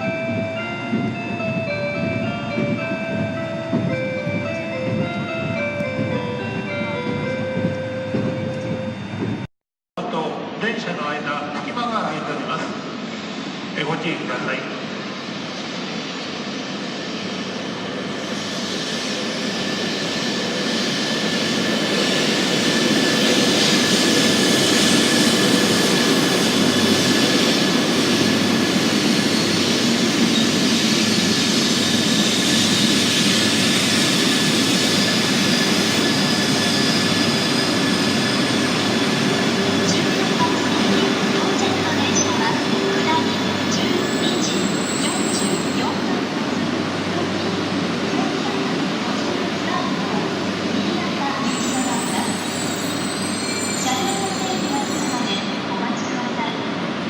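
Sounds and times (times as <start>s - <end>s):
train rushing rumble: 0.0s - 9.5s, 10.2s - 57.0s.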